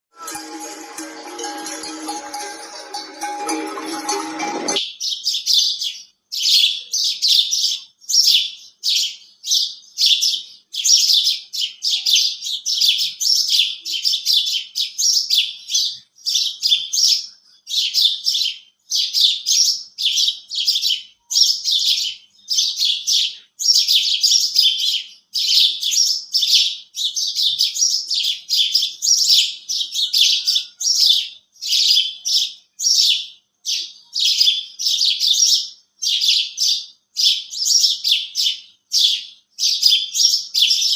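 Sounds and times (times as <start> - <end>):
sparrows chirping: 4.7 - 40.9.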